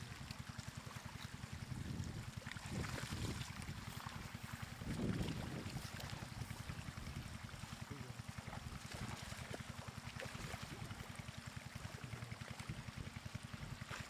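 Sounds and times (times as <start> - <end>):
water running through grass: 0.0 - 14.0
water splashing: 0.0 - 14.0.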